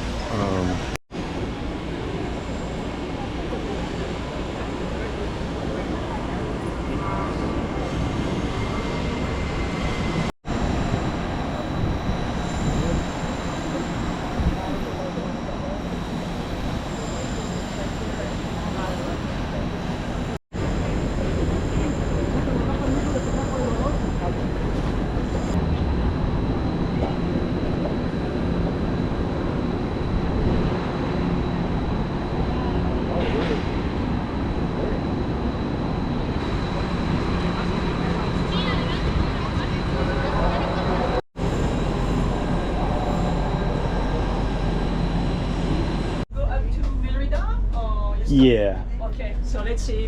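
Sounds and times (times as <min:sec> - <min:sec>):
train rumble and hiss: 0:00.0 - 0:50.0.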